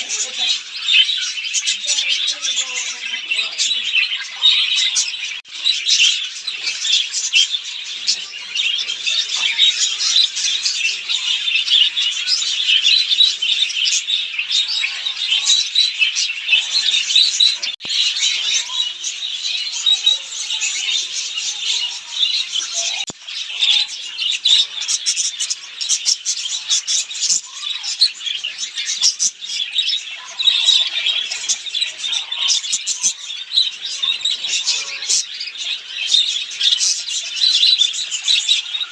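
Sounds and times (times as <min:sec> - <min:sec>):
cage birds chirping: 0:00.0 - 0:38.9.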